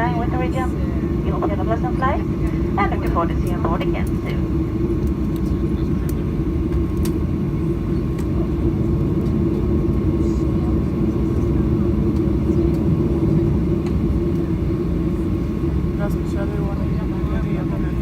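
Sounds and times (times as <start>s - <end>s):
aircraft cabin rumble: 0.0s - 18.0s
jet engines idling hum: 0.0s - 18.0s.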